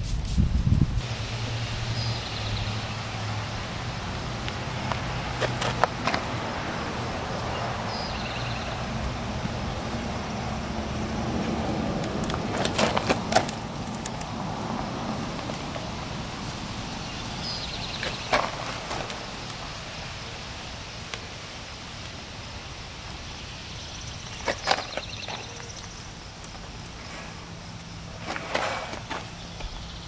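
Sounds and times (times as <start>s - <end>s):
outdoor background hum: 0.0s - 30.0s.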